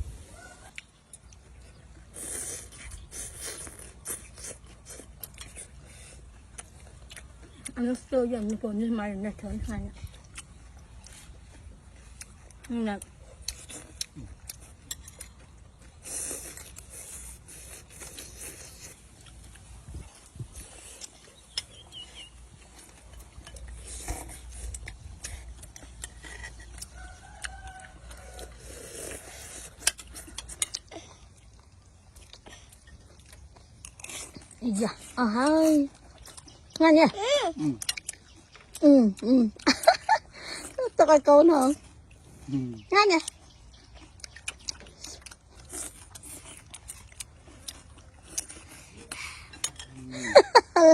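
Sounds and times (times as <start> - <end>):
person chewing food: 0.0 - 50.9.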